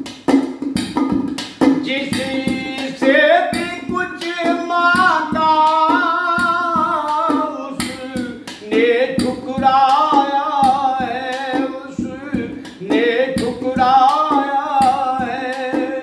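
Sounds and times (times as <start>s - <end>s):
hand drum beat: 0.0s - 16.0s
instrumental accompaniment: 0.0s - 16.0s
melismatic singing: 1.9s - 16.0s.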